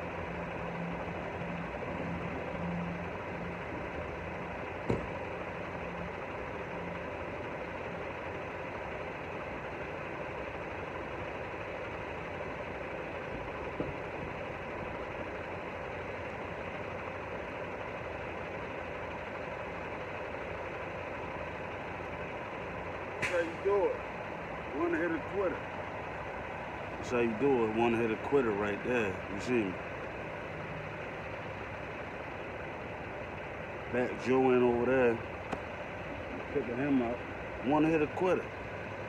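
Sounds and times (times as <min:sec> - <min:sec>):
diesel truck engine idling: 0:00.0 - 0:39.0.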